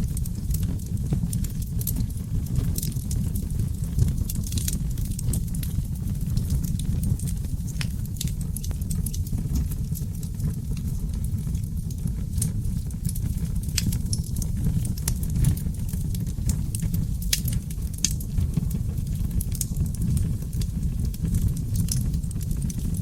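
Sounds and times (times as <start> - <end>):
fire flames rumbling: 0.0 - 23.0
logs crackling and popping: 0.0 - 23.0.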